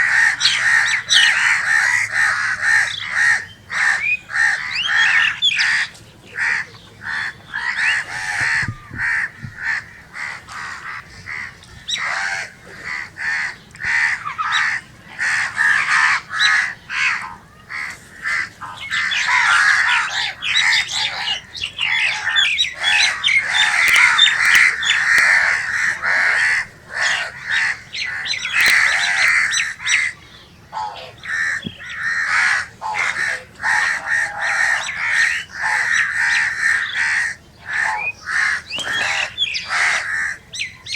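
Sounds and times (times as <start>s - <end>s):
crows cawing: 0.0s - 40.6s.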